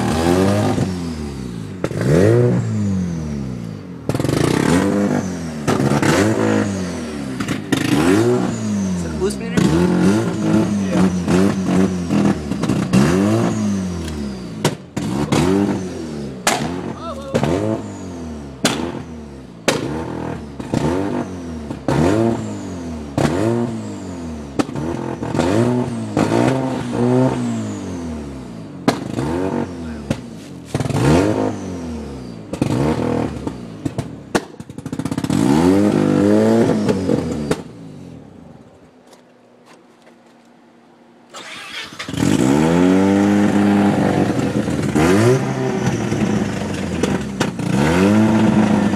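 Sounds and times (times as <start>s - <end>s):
exhaust cracks: 0.0s - 3.0s, 4.0s - 28.1s, 28.7s - 38.0s, 41.3s - 48.9s
rotary engine revving: 0.0s - 38.2s, 41.3s - 48.9s.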